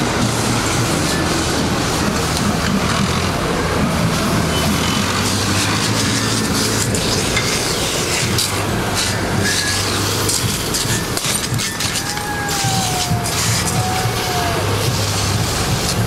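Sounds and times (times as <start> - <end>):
heavy engine droning: 0.0 - 16.0
water jets hissing: 0.0 - 16.0.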